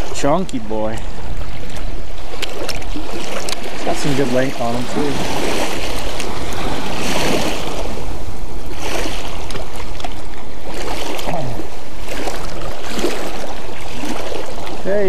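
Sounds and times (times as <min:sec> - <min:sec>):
waves lapping on rocky shore: 0:00.0 - 0:15.0.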